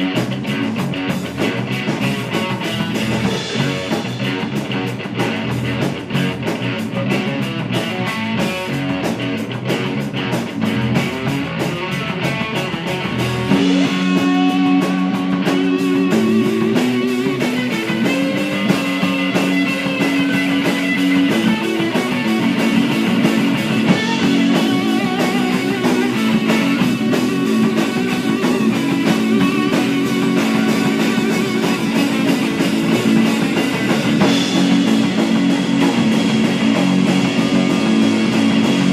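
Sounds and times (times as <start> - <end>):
rock music with guitar: 0.0 - 38.9.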